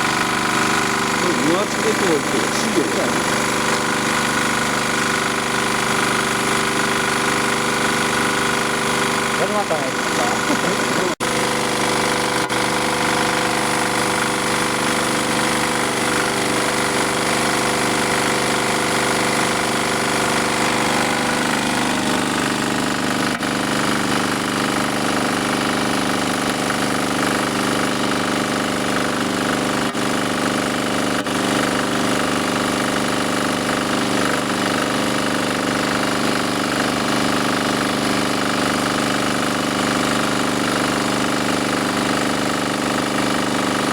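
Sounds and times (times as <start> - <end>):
small generator engine running: 0.0 - 43.9.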